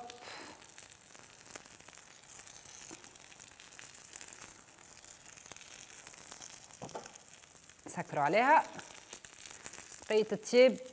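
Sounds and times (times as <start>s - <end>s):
omelette sizzling in a pan: 0.0s - 10.9s.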